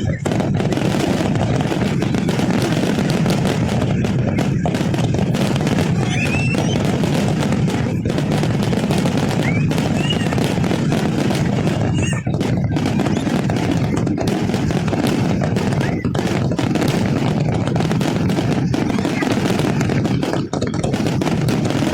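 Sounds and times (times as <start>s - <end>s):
fireworks bangs and crackles: 0.0s - 21.9s
fireworks whistles: 0.0s - 21.9s.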